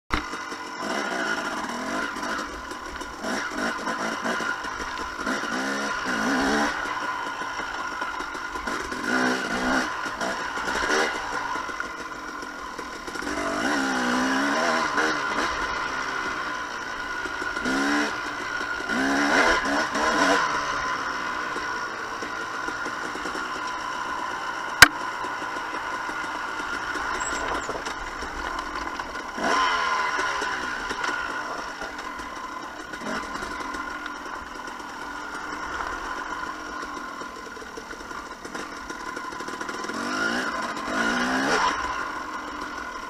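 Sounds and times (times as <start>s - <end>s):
two-stroke engine revving: 0.1s - 43.0s.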